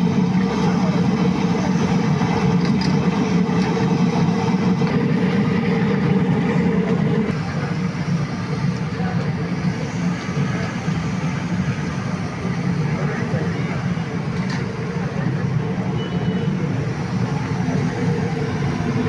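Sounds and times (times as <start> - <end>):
low engine-like hum: 0.0 - 19.0
street noise: 0.0 - 19.0.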